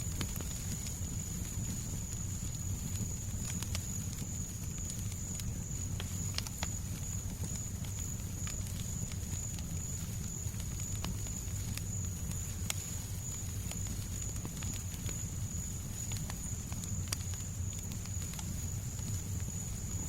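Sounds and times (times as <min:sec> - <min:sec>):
fireplace crackling: 0:00.0 - 0:20.0
soft white noise: 0:00.0 - 0:20.0.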